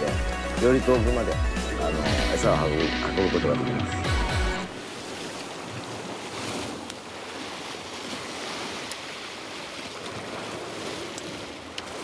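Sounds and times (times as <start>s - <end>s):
sea surf on rocky shore: 1.9s - 12.0s.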